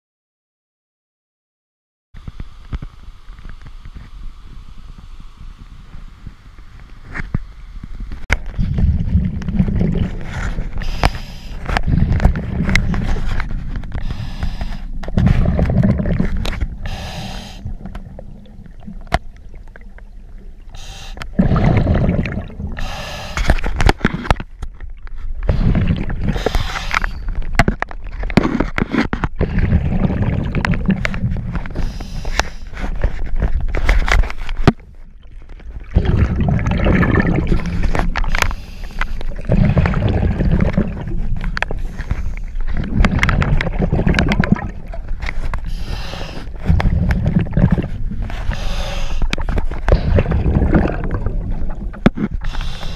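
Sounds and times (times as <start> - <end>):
muffled underwater river rumble: 2.4 - 23.3, 25.2 - 27.6, 29.4 - 33.7, 34.8 - 52.6.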